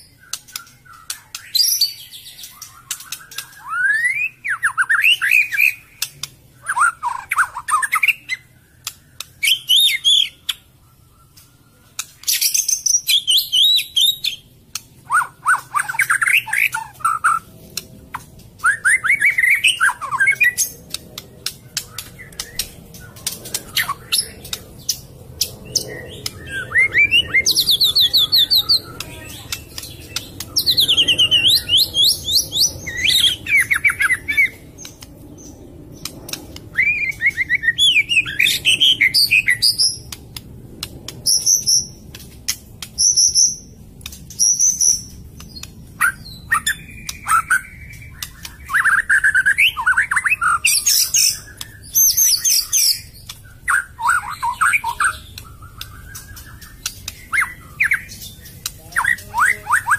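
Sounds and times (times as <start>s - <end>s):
bird singing whistles and trills: 0.0s - 17.5s, 18.1s - 40.2s, 41.1s - 42.1s, 42.8s - 59.9s.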